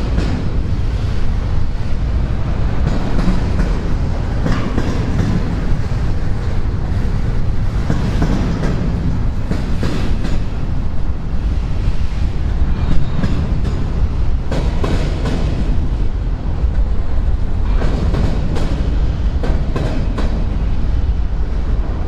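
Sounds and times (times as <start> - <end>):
train low rumble: 0.0 - 22.0
train wheels clacking on rails: 0.0 - 22.0.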